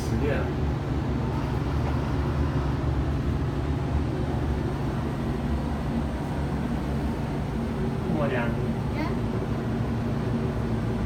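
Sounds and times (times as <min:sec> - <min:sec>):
low hum and rumble: 0:00.0 - 0:11.0.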